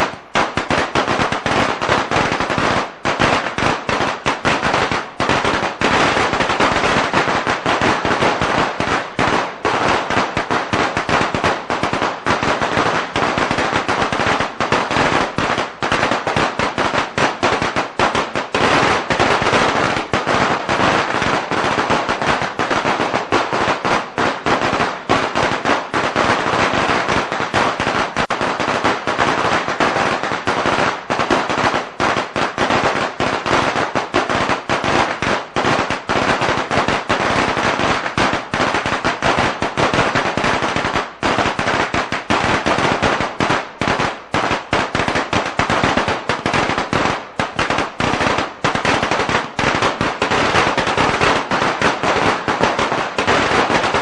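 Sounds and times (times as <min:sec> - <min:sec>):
firecrackers cracking: 0:00.0 - 0:54.0.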